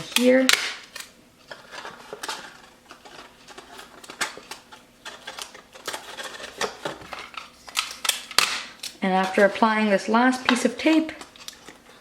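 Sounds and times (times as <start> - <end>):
paper and tape crinkling: 0.0 - 12.0.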